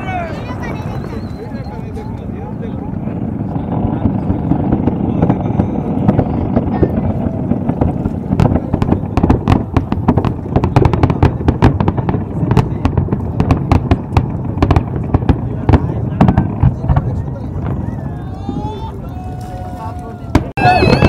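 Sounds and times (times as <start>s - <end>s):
firework cracks and pops: 0.0s - 21.0s
low rumble of firework launches: 0.0s - 21.0s.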